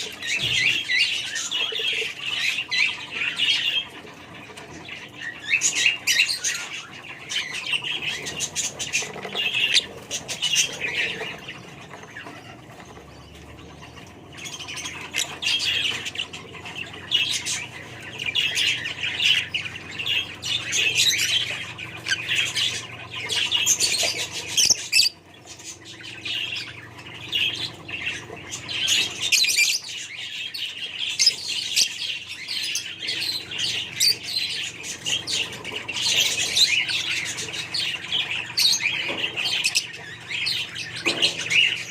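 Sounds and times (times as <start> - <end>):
budgerigars chirping and squawking: 0.0 - 41.9.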